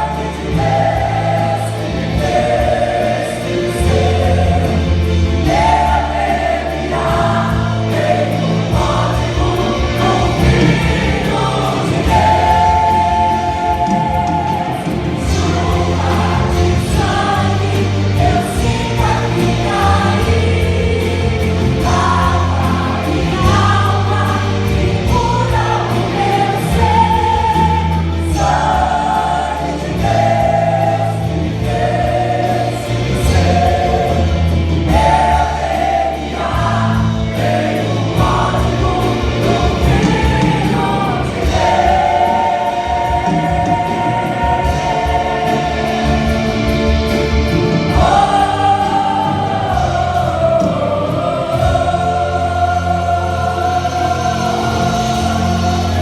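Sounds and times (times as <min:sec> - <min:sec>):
gospel band playing: 0:00.0 - 0:56.0
group of voices singing: 0:00.0 - 0:56.0.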